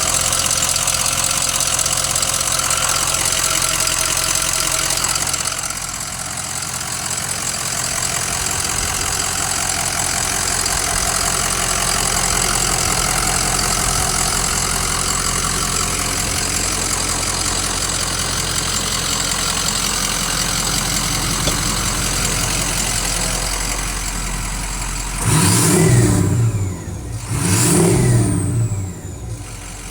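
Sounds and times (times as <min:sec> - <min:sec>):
diesel engine idling and revving: 0:00.0 - 0:29.9.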